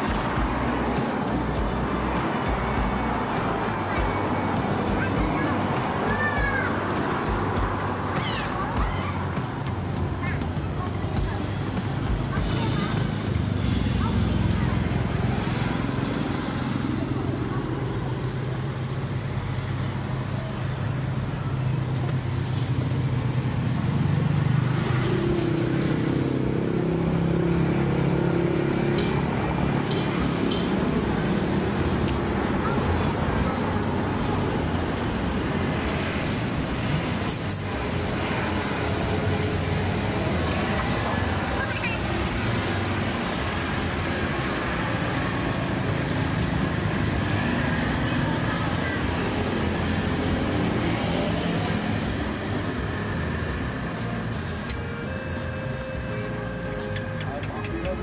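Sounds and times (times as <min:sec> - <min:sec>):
outdoor background rumble: 0:00.0 - 0:58.0
vehicle engine humming: 0:00.0 - 0:58.0
higher engine tone: 0:10.0 - 0:58.0.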